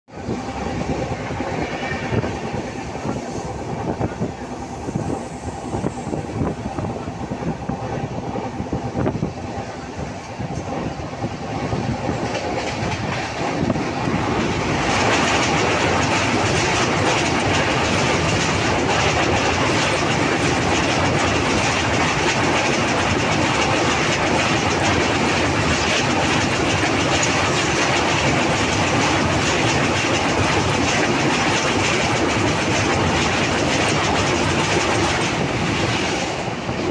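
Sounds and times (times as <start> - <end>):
train wheels rumbling on bridge: 0.1 - 36.9.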